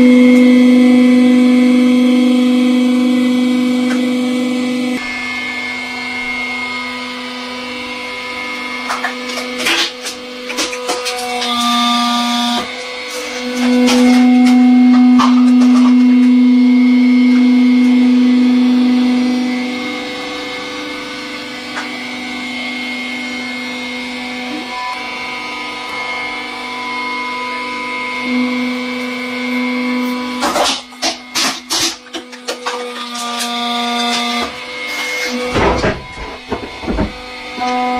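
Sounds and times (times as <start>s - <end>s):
hydraulic pump motor humming: 0.0s - 37.9s.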